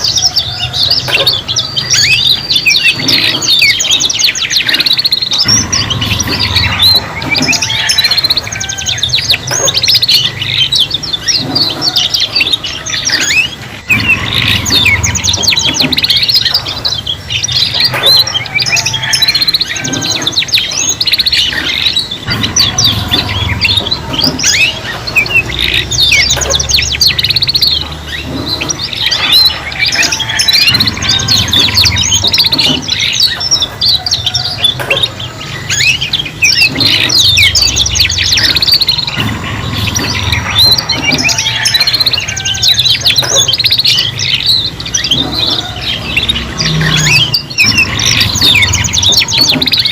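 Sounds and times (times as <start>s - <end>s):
canaries singing trills and chirps: 0.0s - 49.9s.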